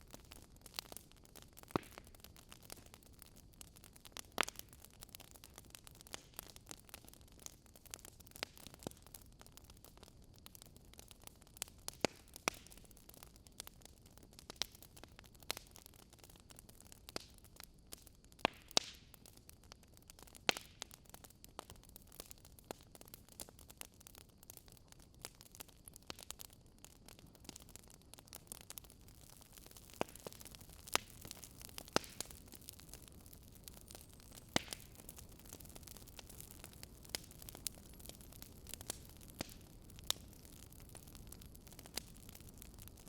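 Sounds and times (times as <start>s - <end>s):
soft steady hiss: 0.0s - 43.0s
wood fire crackling: 0.0s - 43.0s.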